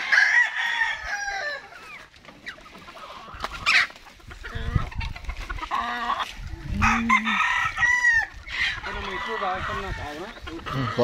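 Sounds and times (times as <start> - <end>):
hens and rooster clucking: 0.0 - 11.0.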